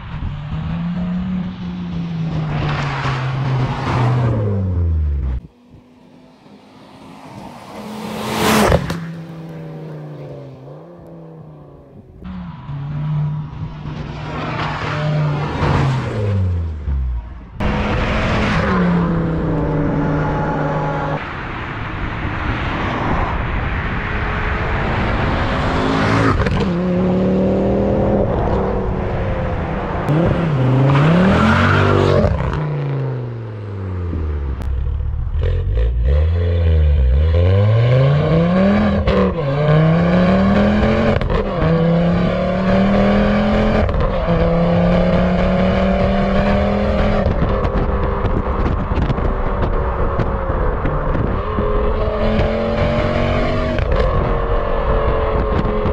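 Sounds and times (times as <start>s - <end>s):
car engine revving: 0.0s - 21.4s, 22.8s - 55.9s.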